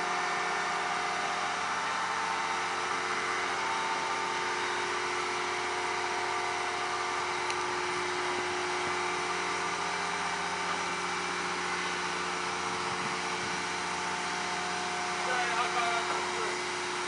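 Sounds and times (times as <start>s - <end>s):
heavy machinery humming: 0.0s - 17.0s.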